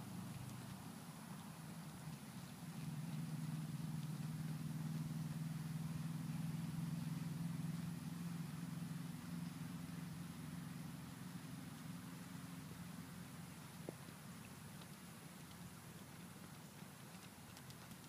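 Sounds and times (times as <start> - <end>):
low engine-like drone: 0.0 - 18.0.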